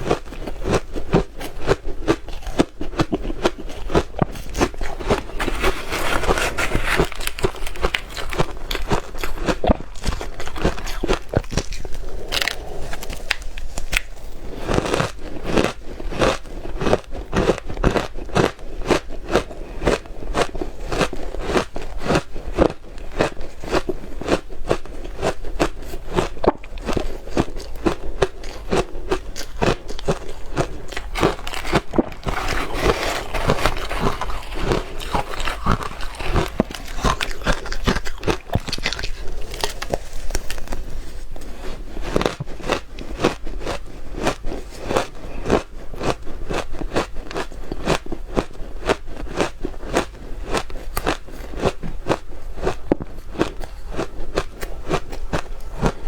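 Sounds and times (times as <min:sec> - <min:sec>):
ice crunching while chewed: 0:00.0 - 0:56.0.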